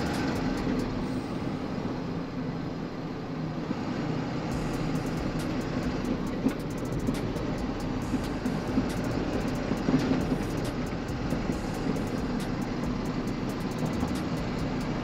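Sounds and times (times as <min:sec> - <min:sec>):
road noise: 0:00.0 - 0:15.0
truck engine hum: 0:00.0 - 0:15.0.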